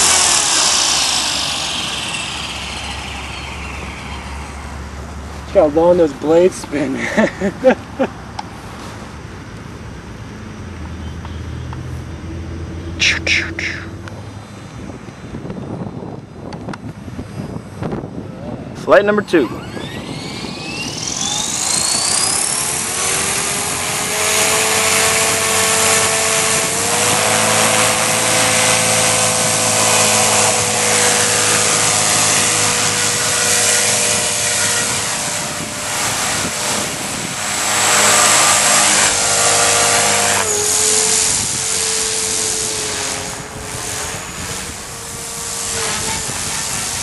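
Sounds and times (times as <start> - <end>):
rc helicopter engine and rotor whine: 0.0 - 11.4, 12.2 - 47.0.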